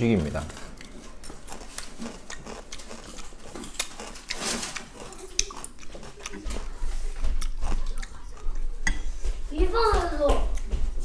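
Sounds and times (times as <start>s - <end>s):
person chewing food: 0.4s - 9.4s.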